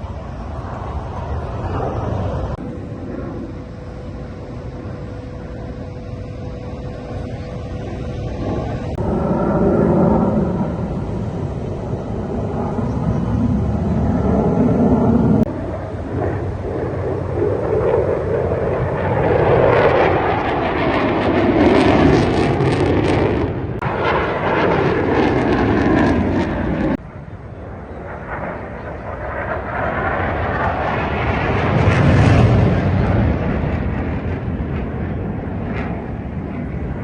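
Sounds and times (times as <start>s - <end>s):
aircraft engines passing overhead: 0.0s - 37.0s.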